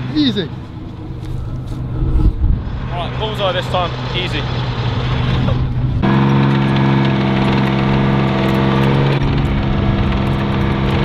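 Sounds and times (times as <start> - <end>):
tank engine droning: 0.0 - 11.0.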